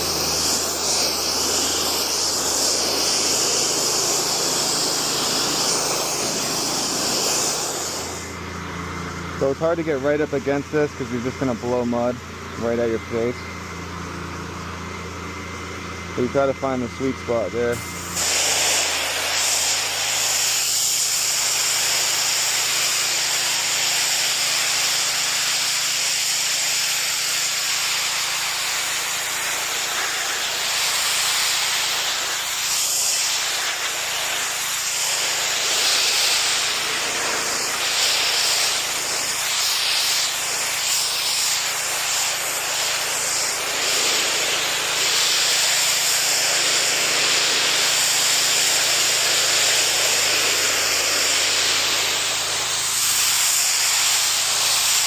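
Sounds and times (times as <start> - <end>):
pressure washer spraying: 0.0 - 8.4, 17.7 - 55.0
pressure washer engine hum: 0.0 - 55.0.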